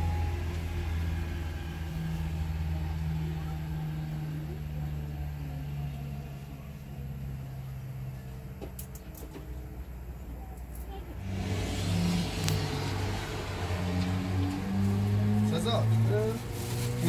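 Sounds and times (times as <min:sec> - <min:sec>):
engine low hum: 0:00.0 - 0:17.0.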